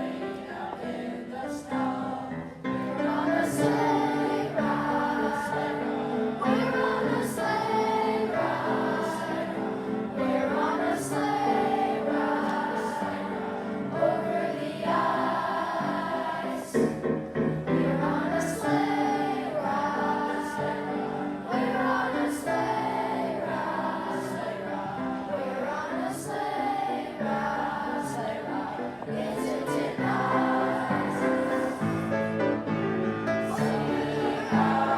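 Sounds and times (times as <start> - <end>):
children's choir singing: 0.0 - 34.9.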